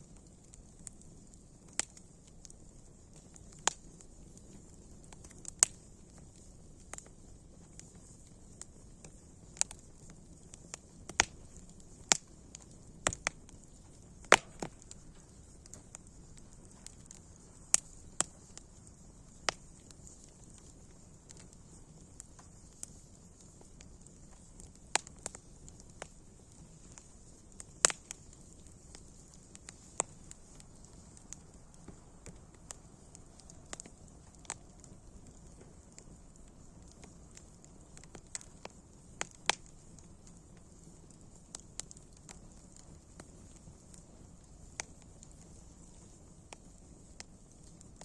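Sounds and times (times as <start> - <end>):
faint steady hiss: 0.0 - 48.0
wood fire crackling: 0.0 - 48.0.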